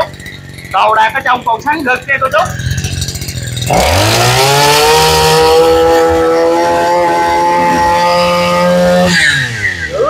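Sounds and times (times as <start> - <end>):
brushcutter engine revving: 0.0 - 10.0.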